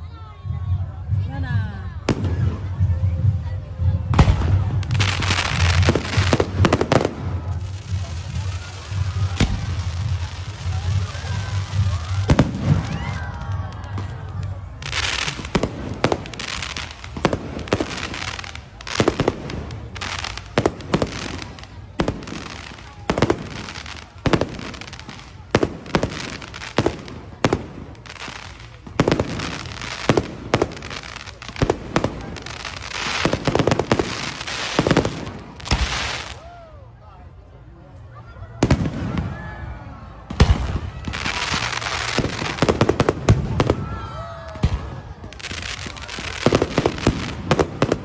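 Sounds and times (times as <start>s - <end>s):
fireworks crackling: 0.0s - 36.7s, 37.4s - 48.0s
fireworks bangs: 0.7s - 36.4s, 38.6s - 48.0s.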